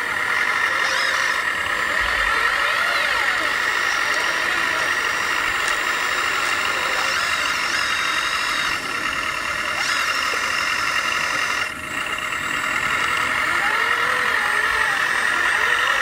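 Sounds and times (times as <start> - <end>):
high mechanical motor whine: 0.0 - 16.0.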